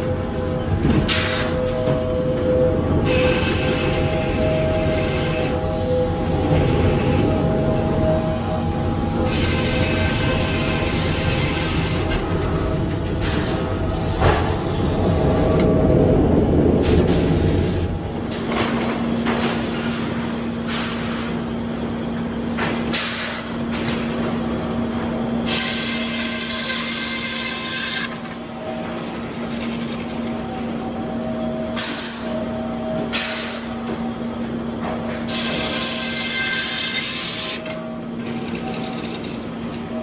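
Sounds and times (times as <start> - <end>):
heavy rumble of saws and conveyors: 0.0 - 40.0.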